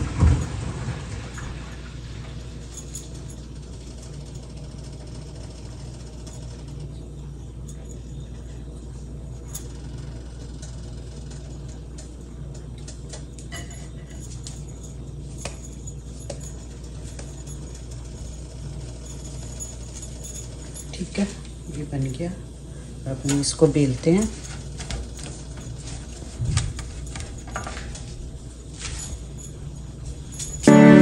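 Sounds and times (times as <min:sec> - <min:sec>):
quiet low hum: 0:00.0 - 0:31.0.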